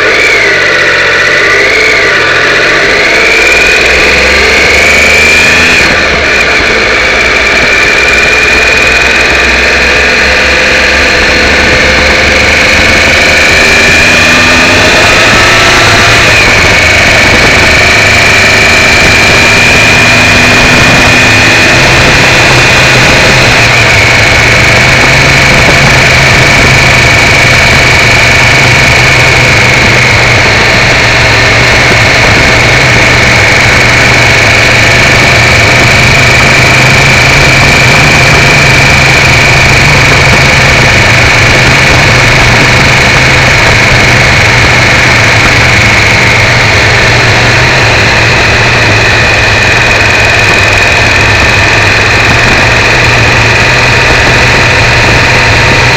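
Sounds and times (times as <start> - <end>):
motorcycle engine running: 0.0 - 55.9
steady high whine: 0.0 - 55.9
wind noise: 0.0 - 55.9.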